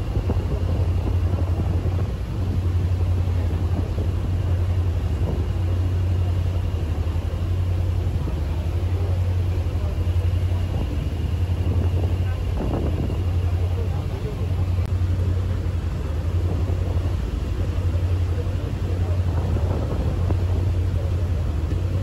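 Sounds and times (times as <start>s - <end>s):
churning wake water: 0.0s - 22.0s
ferry engine droning: 0.0s - 22.0s.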